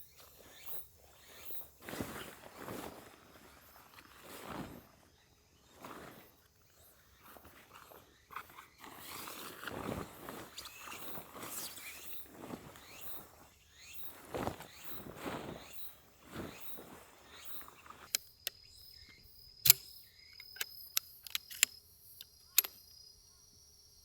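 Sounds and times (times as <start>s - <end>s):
soft swishing footsteps outdoors: 0.0s - 19.2s.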